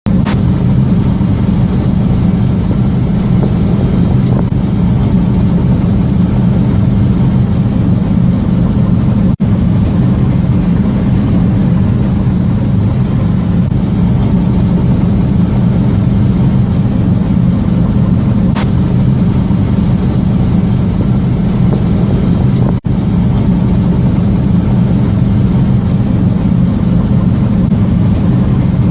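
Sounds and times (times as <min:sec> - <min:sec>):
heavy machinery engine droning: 0:00.1 - 0:28.9.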